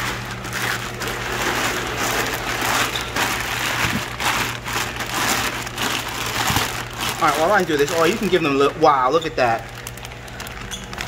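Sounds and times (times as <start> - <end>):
plastic bags crinkling: 0.0 - 11.0
steady low hum: 0.0 - 11.0.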